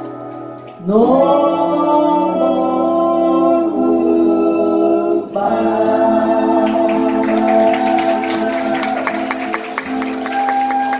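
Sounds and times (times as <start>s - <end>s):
acoustic guitars: 0.0s - 10.9s
vocal group singing harmony: 0.8s - 10.2s.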